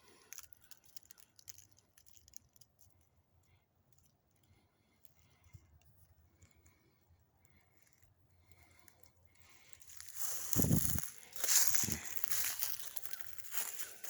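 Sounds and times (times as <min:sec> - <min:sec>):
faint clicks and crackles: 0:00.0 - 0:14.0.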